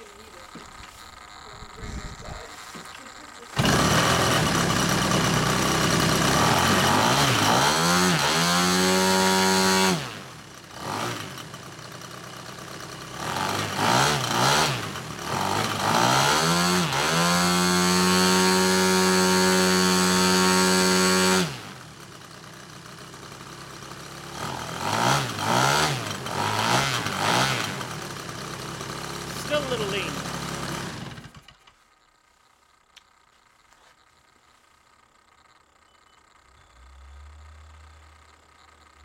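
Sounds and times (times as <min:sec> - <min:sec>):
model plane engine revving: 0:00.0 - 0:31.8.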